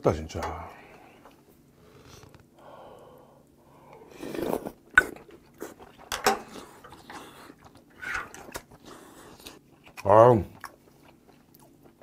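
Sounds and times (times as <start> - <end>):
man chewing food: 1.0 - 12.0.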